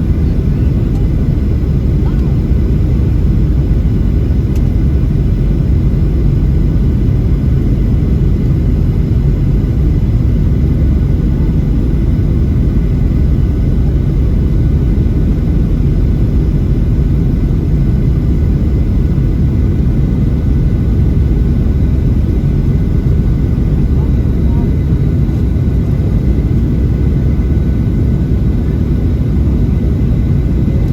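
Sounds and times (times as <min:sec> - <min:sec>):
airplane cabin rumble: 0:00.0 - 0:30.9.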